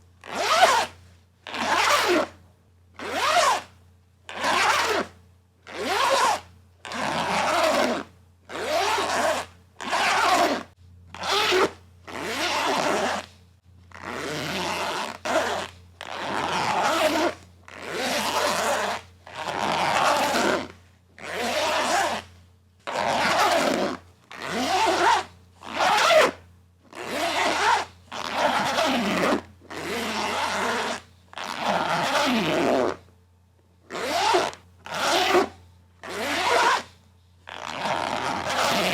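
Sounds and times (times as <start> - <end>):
zipper being pulled: 0.2 - 2.4, 3.0 - 13.3, 13.9 - 33.0, 33.9 - 38.9.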